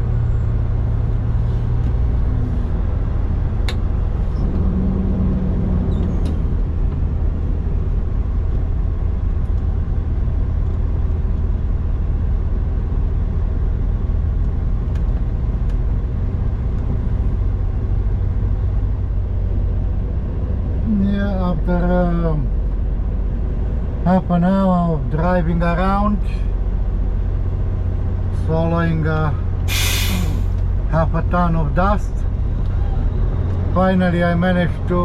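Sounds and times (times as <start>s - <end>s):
diesel engine low rumble: 0.0s - 35.0s.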